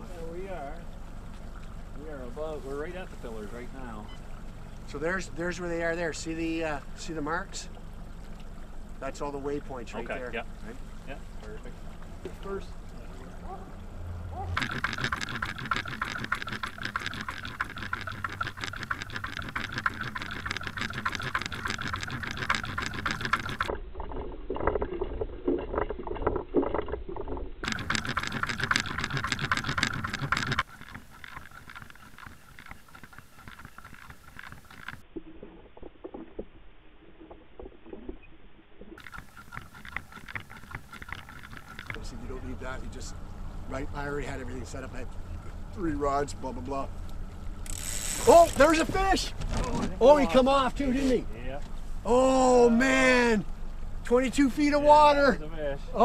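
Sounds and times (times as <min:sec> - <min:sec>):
rushing water: 0:00.0 - 0:23.8, 0:27.6 - 0:35.6, 0:38.8 - 0:56.0
outboard motor underwater: 0:00.0 - 0:56.0.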